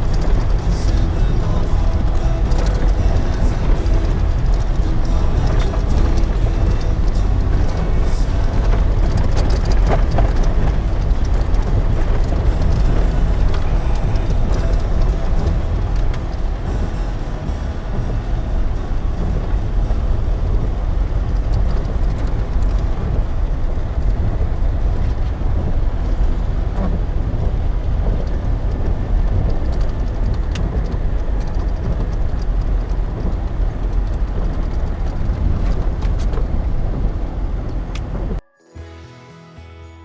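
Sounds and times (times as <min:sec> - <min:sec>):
vehicle engine and road noise: 0:00.0 - 0:38.5.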